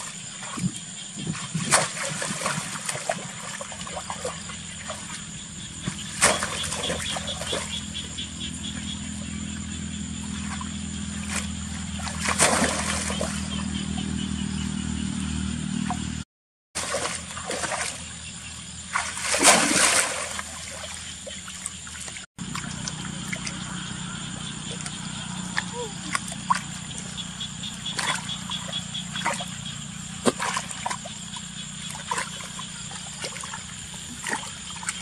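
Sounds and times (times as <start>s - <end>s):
water sloshing and splashing: 0.0s - 8.2s, 10.2s - 14.0s, 16.8s - 35.0s.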